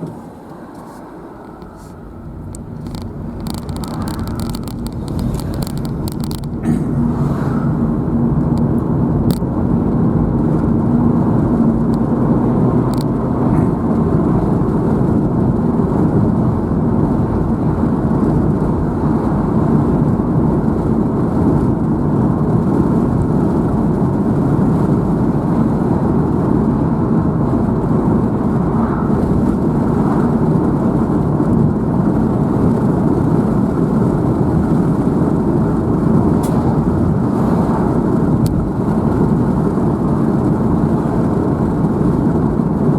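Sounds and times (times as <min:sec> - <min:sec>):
car engine and tyre rumble: 0:00.0 - 0:42.9.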